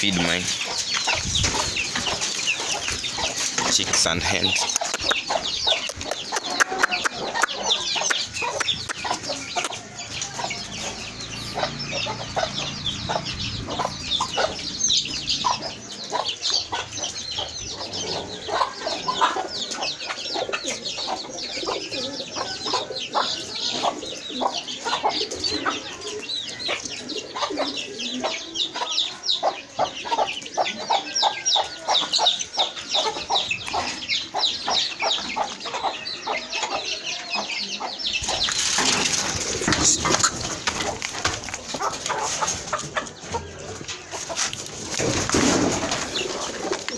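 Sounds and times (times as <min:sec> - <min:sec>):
chicks peeping: 0:00.0 - 0:46.9
hens clucking: 0:00.0 - 0:46.9.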